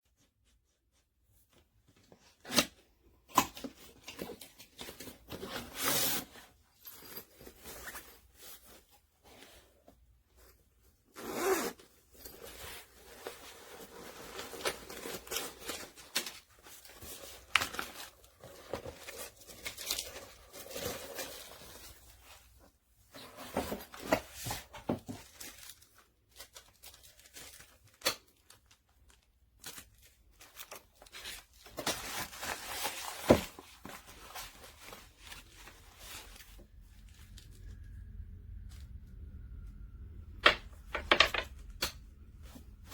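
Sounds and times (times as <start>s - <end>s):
handling rustles and clicks: 1.4s - 11.0s, 11.9s - 38.0s, 40.4s - 42.9s.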